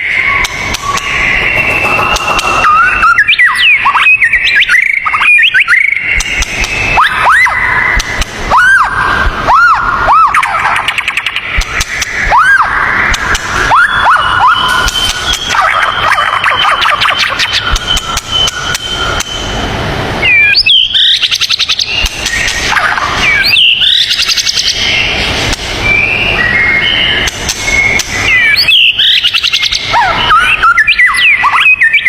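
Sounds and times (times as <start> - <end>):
songbird singing trills and whistles: 0.0 - 9.0, 9.6 - 19.6, 20.2 - 25.2, 25.8 - 32.0.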